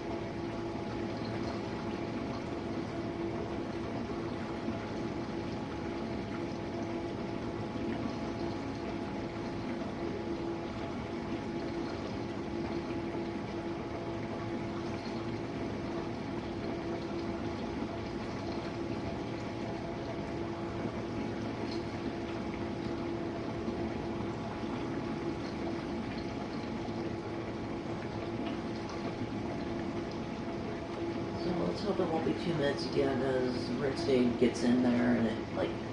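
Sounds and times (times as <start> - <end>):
dishwasher pump hum: 0.0 - 35.9.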